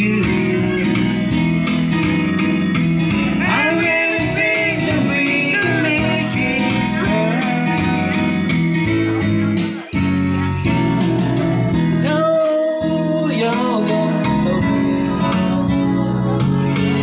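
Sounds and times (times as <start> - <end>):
person singing into a microphone: 0.0 - 10.1, 11.7 - 17.0
karaoke backing track: 0.0 - 17.0.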